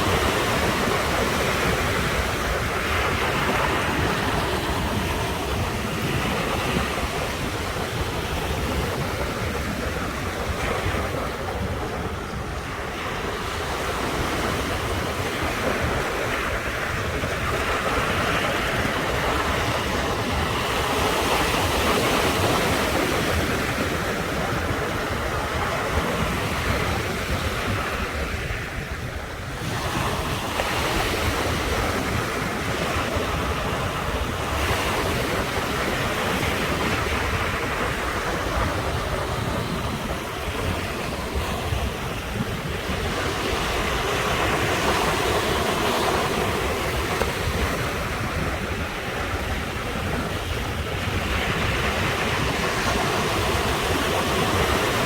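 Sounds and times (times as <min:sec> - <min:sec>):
ocean surf washing in: 0:00.0 - 0:55.0
wind rumble on microphone: 0:00.0 - 0:55.0.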